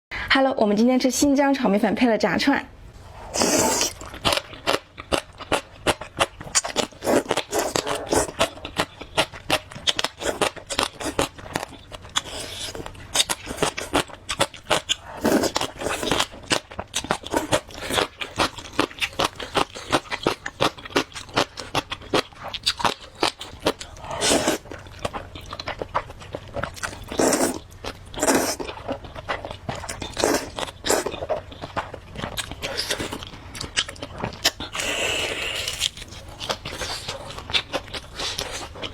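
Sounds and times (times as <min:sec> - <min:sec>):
person crunching and chewing food: 0:03.3 - 0:38.9.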